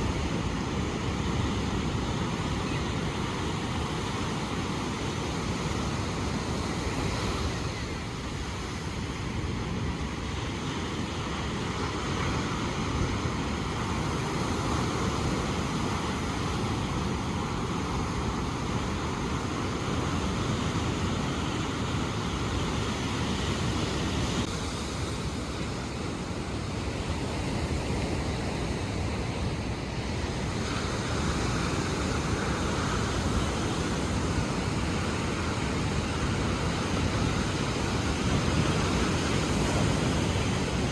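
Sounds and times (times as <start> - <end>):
waves breaking: 0.0 - 40.9.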